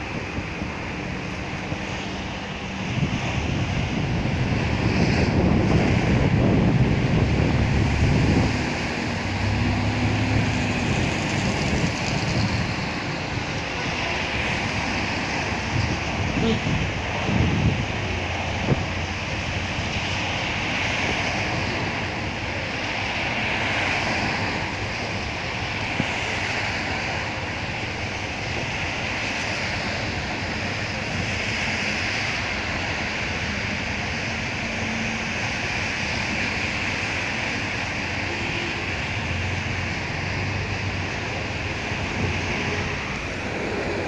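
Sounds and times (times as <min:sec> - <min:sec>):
rain falling steadily: 0:00.0 - 0:44.0.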